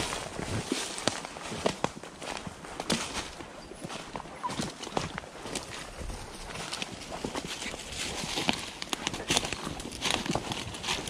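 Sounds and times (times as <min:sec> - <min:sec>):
footsteps crunching through dry leaves: 0:00.0 - 0:11.0
leaves and brush rustling: 0:00.0 - 0:11.0.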